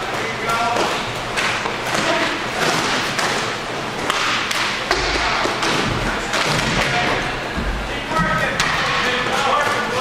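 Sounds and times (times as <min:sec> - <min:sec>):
hockey sticks knocking puck: 0:00.0 - 0:07.3, 0:08.1 - 0:10.0
steady rink din: 0:00.0 - 0:10.0.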